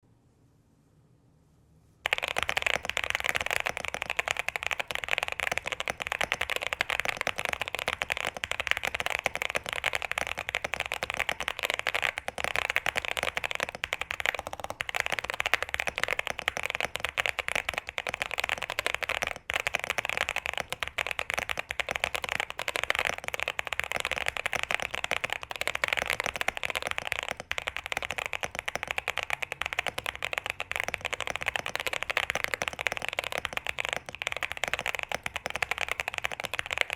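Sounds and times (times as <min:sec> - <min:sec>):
fast mechanical keyboard typing: 0:02.1 - 0:36.9.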